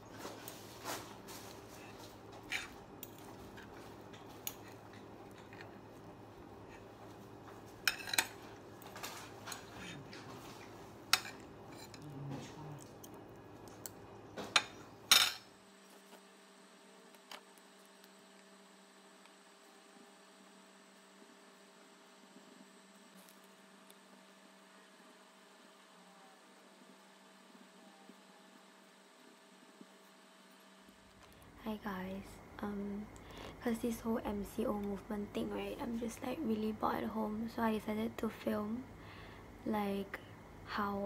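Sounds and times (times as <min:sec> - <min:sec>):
low room hum: 0:00.0 - 0:41.0.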